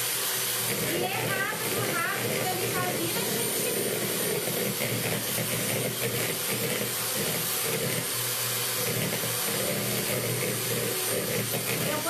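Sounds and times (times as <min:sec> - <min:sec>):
electric hand mixer whipping cream: 0:00.0 - 0:12.0.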